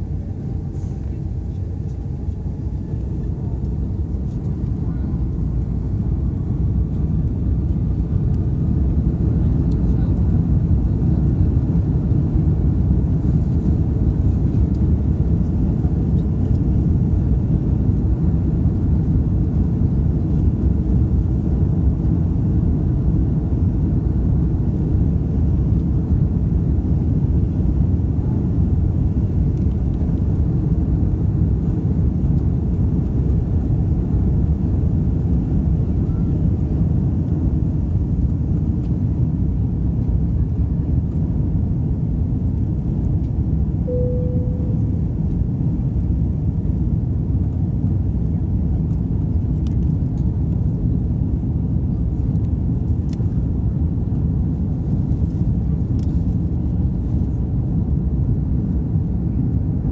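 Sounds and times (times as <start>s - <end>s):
jet engine rumble inside cabin: 0.0s - 59.9s.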